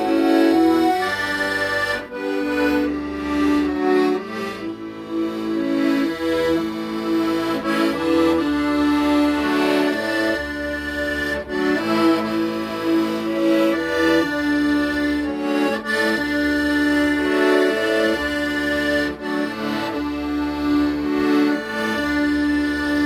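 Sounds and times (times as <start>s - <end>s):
accordion slow melody: 0.0s - 23.0s.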